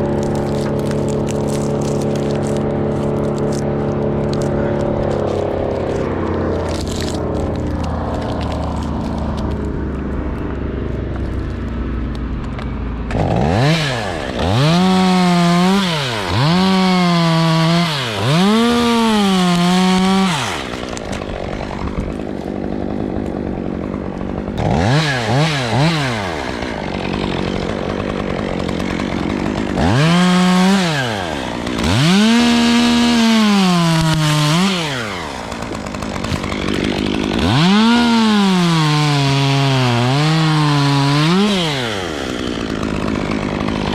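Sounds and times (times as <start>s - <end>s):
chainsaw revving and cutting wood: 0.0s - 43.9s.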